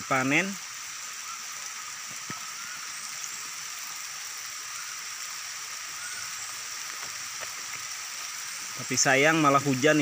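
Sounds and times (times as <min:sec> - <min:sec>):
rain on foliage: 0:00.0 - 0:10.0.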